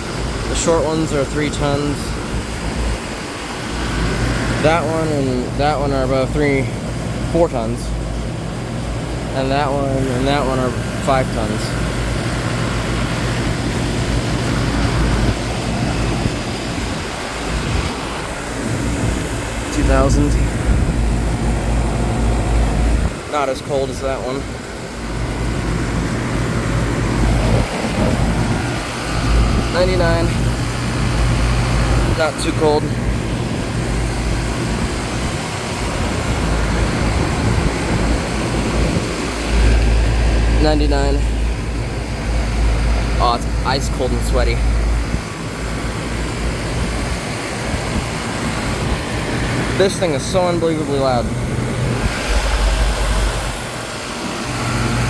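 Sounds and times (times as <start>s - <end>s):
condenser fans rushing: 0.0s - 55.0s
low compressor hum: 0.0s - 55.0s.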